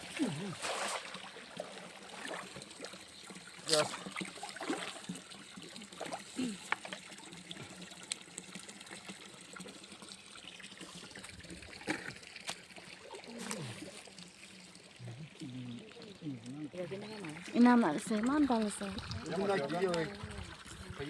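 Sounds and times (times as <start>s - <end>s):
stream water trickling: 0.0s - 21.0s.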